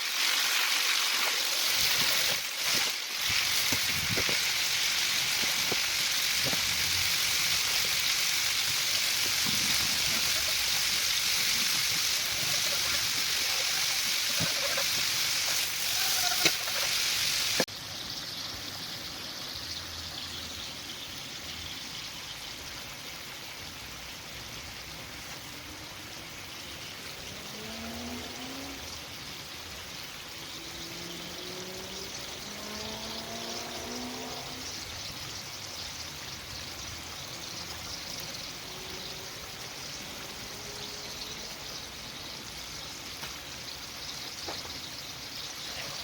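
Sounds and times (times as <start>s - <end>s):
food sizzling in hot oil: 0.0s - 46.0s.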